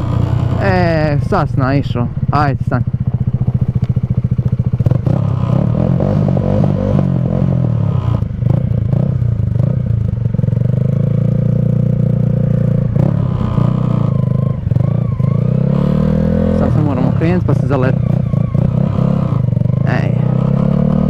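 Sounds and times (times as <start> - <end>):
motorcycle engine chugging: 0.0 - 21.0.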